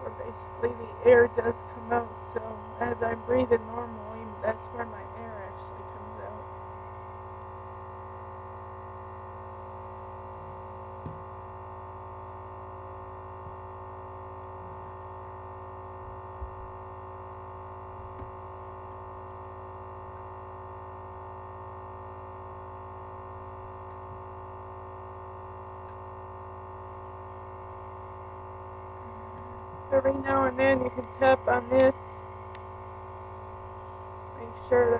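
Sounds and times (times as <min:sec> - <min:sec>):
air compressor humming: 0:00.0 - 0:34.9.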